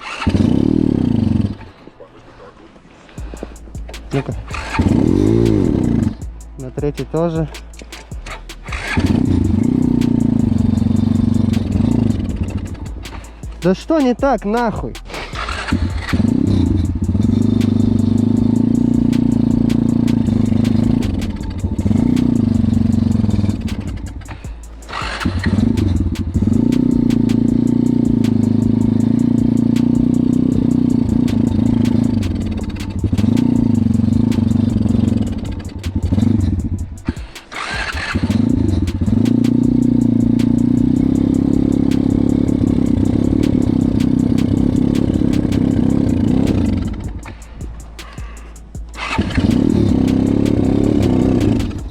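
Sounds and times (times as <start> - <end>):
motorbike engine revving unevenly: 0.0 - 1.8, 3.2 - 51.9.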